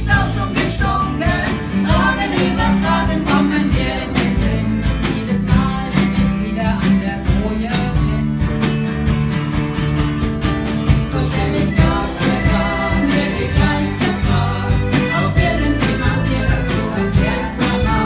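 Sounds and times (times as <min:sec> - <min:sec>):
guitar: 0:00.0 - 0:18.0
steady drum beat: 0:00.0 - 0:18.0.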